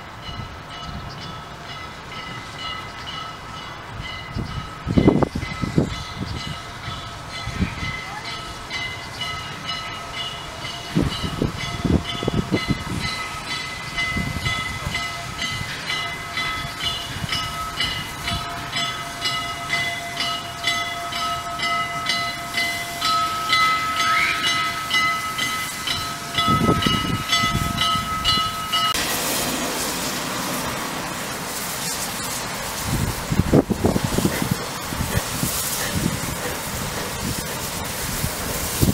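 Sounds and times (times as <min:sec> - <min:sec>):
loud steam hiss: 0:00.0 - 0:38.9
steam locomotive rumbling: 0:00.0 - 0:38.9.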